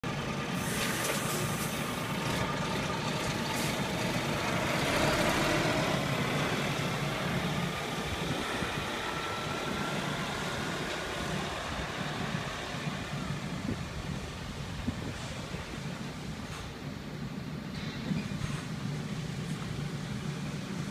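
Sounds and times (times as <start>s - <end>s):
lorry diesel engine driving past: 0.0s - 20.9s.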